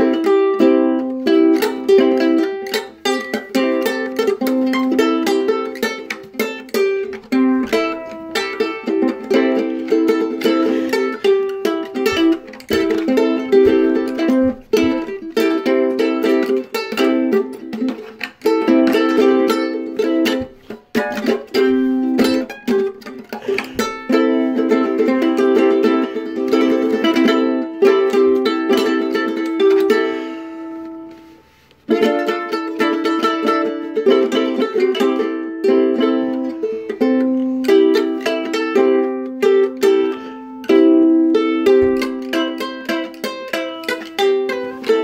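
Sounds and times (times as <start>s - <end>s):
ukulele strummed and plucked: 0.0s - 45.0s.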